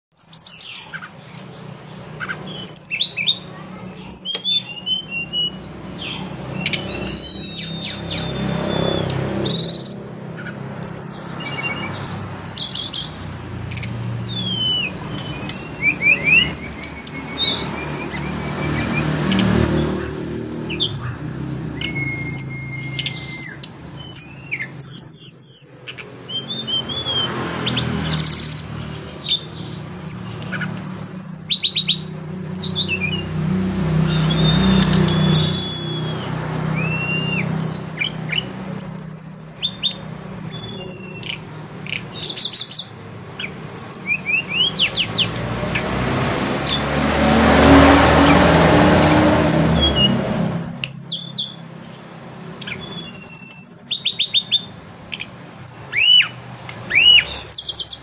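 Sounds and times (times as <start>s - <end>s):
bird singing high whistles and trills: 0.1s - 46.9s, 48.2s - 58.0s.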